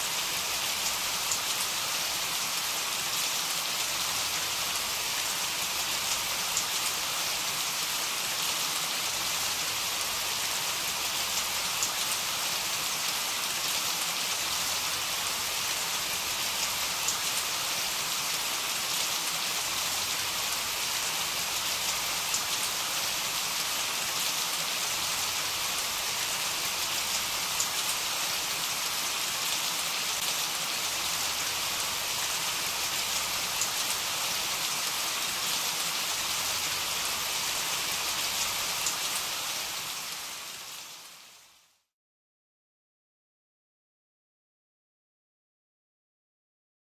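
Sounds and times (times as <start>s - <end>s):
heavy rain hissing: 0.0s - 41.6s.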